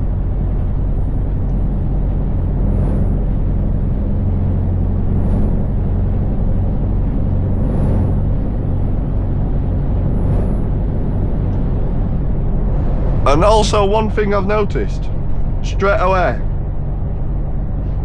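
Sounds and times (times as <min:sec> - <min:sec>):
lorry engine drone: 0:00.0 - 0:18.0.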